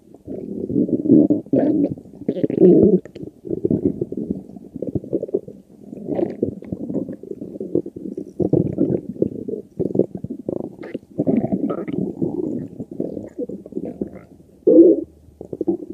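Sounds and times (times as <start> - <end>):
stomach growling: 0.0 - 15.9.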